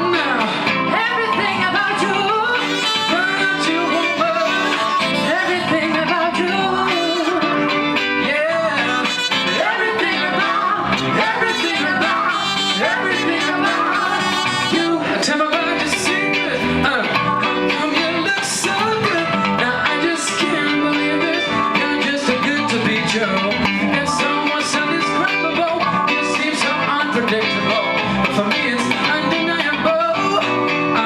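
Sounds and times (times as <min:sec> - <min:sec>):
guitar: 0:00.0 - 0:31.0
person singing: 0:00.0 - 0:31.0.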